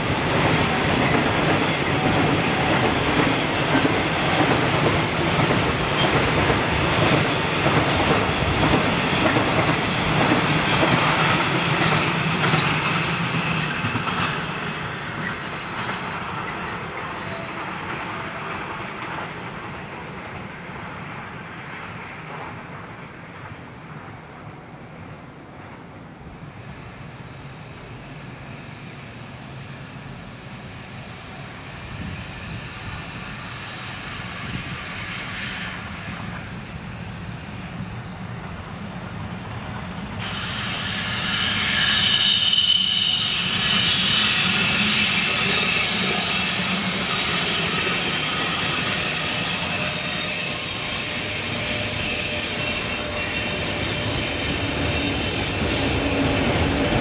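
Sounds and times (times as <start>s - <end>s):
train wheels squealing: 0.0s - 19.5s, 20.3s - 23.2s, 27.2s - 57.0s.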